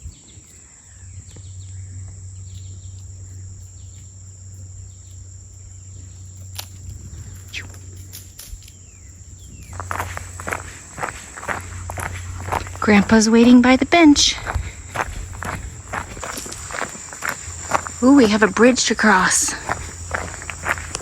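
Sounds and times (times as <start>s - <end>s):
crickets trilling: 0.0s - 21.0s
low rumble: 1.0s - 21.0s
footsteps on a trail: 1.3s - 21.0s.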